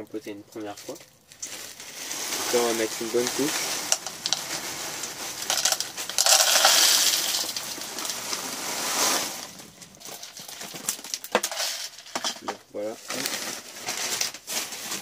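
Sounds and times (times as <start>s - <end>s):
clay pebbles rattling into plastic pot: 0.6s - 15.0s.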